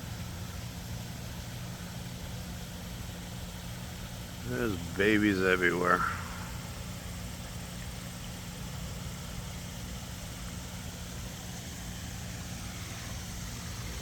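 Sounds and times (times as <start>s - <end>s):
low mechanical hum: 0.0s - 14.0s
waterfall running water: 0.0s - 14.0s.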